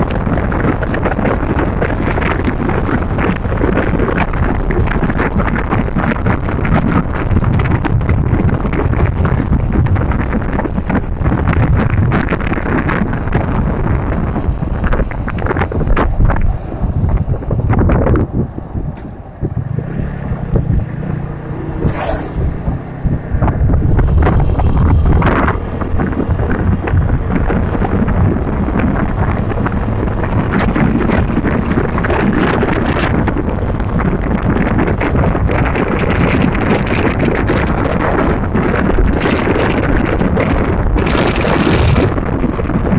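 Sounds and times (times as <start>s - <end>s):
car road noise: 0.0s - 42.9s
wind buffeting microphone: 0.0s - 42.9s.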